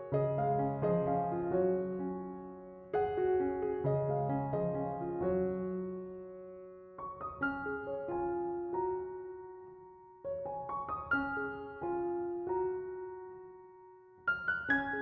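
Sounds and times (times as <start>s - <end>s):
gentle piano arpeggios: 0.0s - 15.0s.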